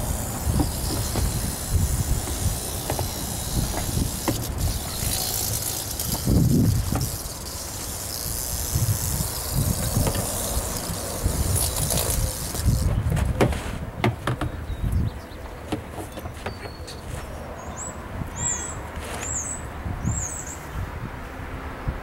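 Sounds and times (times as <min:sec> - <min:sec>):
wind buffeting microphone: 0:00.0 - 0:15.4, 0:17.2 - 0:22.0.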